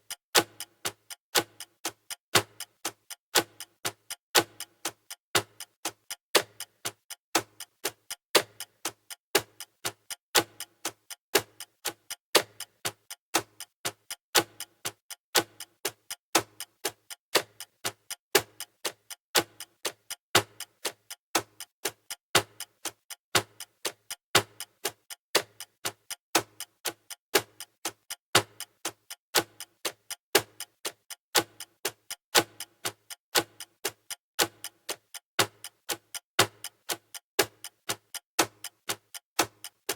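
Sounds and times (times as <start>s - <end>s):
countdown timer ticking: 0.0s - 39.9s.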